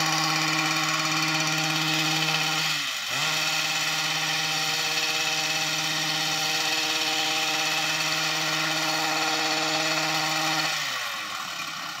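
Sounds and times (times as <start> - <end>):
string trimmer engine running: 0.0 - 12.0.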